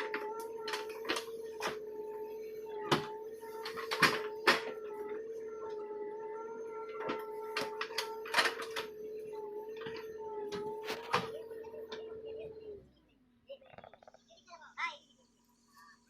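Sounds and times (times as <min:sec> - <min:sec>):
small motor whining: 0:00.0 - 0:13.2.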